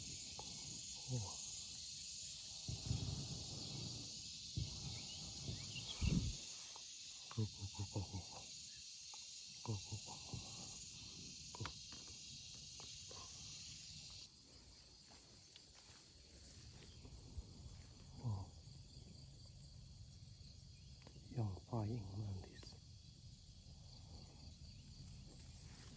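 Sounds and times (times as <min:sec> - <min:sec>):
insect chorus buzzing: 0:00.0 - 0:25.9.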